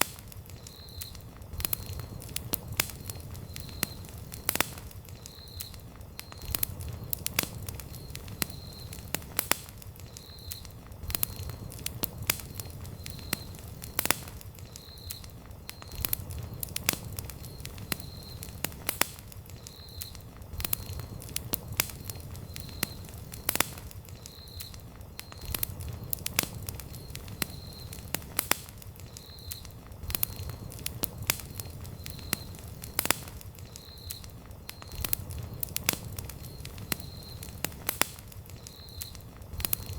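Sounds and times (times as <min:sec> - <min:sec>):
campfire crackling and popping: 0:00.0 - 0:39.9
low rumble of burning logs: 0:00.0 - 0:39.9.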